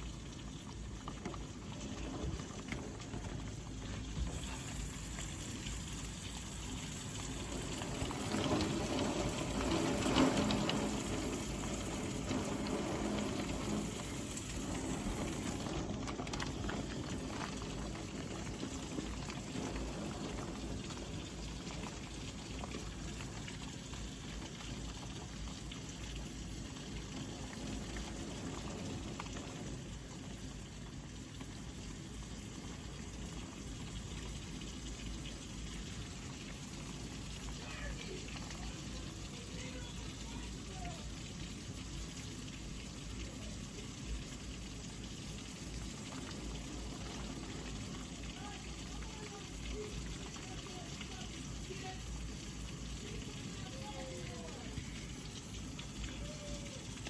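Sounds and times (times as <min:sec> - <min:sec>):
heavy rain: 0:01.2 - 0:57.0.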